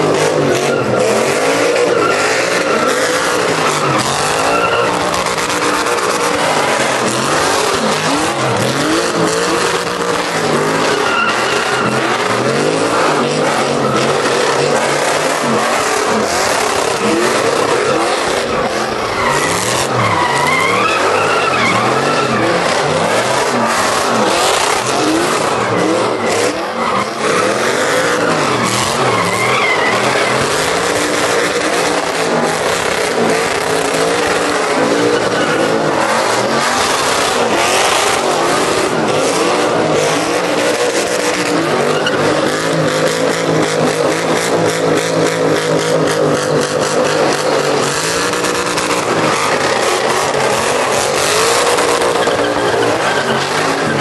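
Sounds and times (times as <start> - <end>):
tires squealing on pavement: 0.0 - 54.0
truck engines revving: 0.0 - 54.0.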